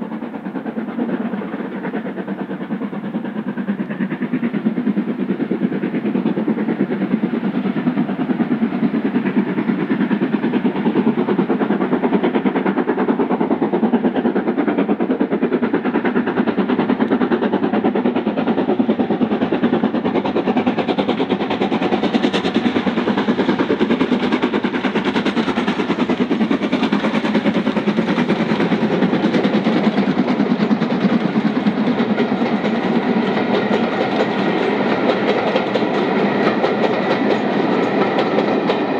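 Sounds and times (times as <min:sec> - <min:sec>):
steam locomotive exhaust beats: 0:00.0 - 0:38.9.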